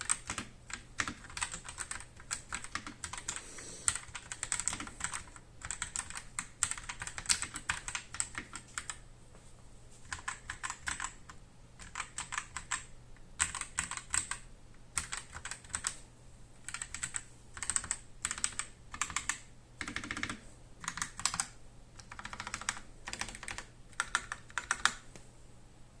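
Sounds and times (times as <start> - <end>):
mechanical keyboard typing: 0.0 - 9.0, 10.1 - 16.0, 16.6 - 25.0.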